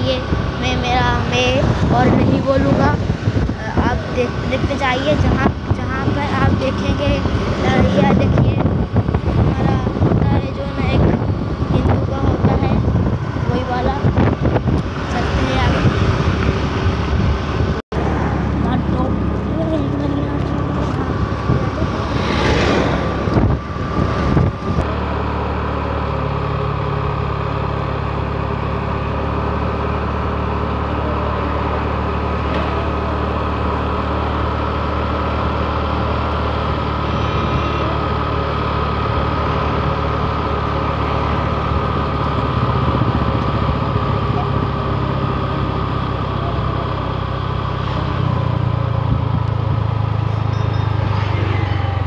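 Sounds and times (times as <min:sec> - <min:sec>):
vehicle engine droning: 0:00.0 - 0:52.0.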